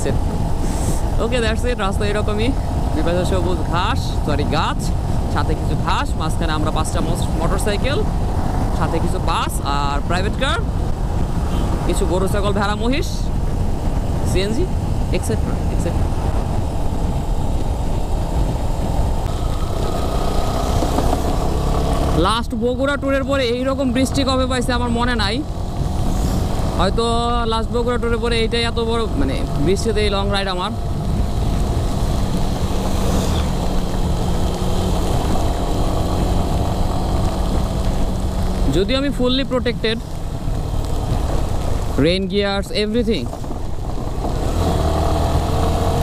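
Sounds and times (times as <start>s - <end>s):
motorcycle engine running: 0.0s - 46.0s
wind and road noise: 0.0s - 46.0s.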